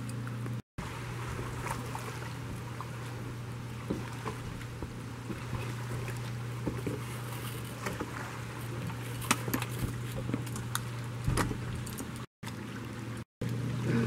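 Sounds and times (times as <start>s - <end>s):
boat engine idling: 0.8s - 14.0s.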